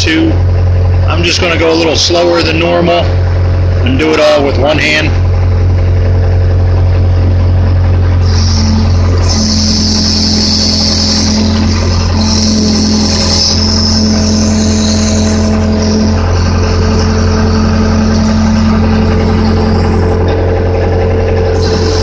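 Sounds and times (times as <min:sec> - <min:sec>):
backhoe engine running: 0:00.0 - 0:22.0.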